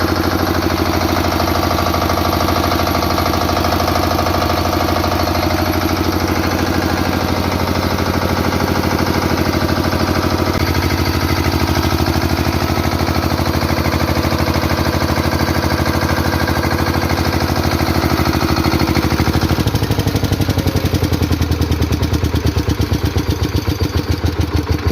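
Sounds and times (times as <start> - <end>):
diesel generator running: 0.0 - 24.9.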